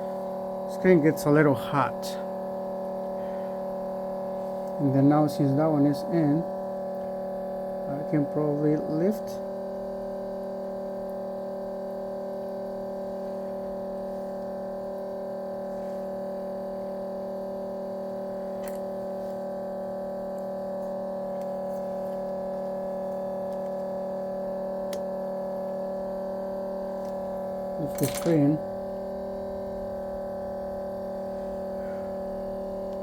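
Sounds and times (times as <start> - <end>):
appliance electrical hum: 0.0 - 33.0.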